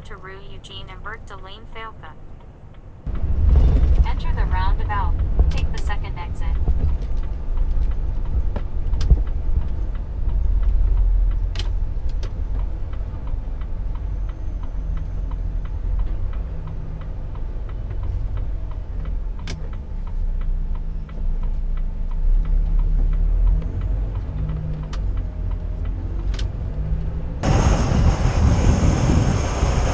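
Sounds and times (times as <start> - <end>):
turn signal ticking: 0.0 - 3.1, 5.1 - 27.4
truck engine and road rumble: 0.0 - 29.9.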